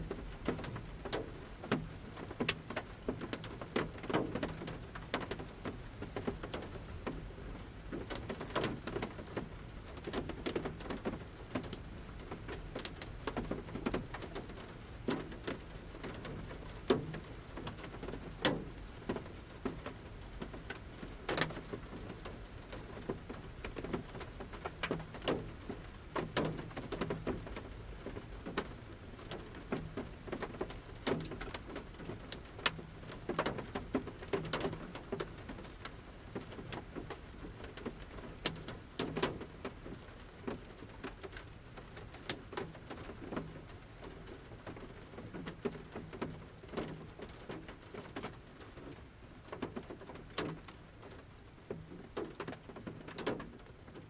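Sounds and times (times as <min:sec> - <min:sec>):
raindrops pattering on van roof: 0:00.0 - 0:54.0
soft rain hiss: 0:00.0 - 0:54.0.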